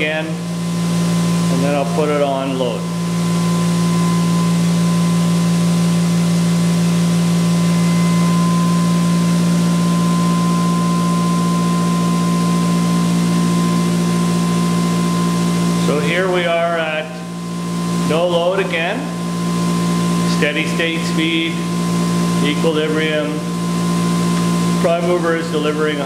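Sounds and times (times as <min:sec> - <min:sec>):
electric motor and generator humming: 0:00.0 - 0:26.0.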